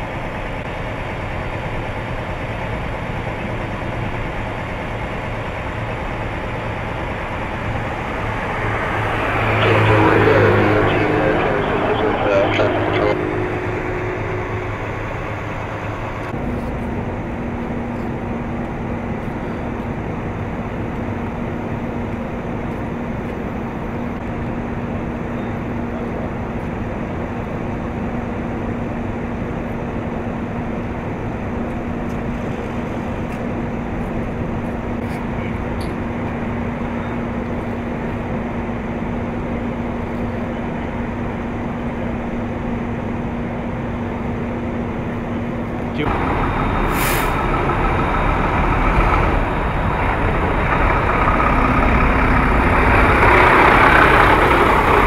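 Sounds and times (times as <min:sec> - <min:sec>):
truck driving past: 0:00.0 - 0:29.2, 0:31.1 - 0:55.0
low engine hum: 0:00.0 - 0:55.0.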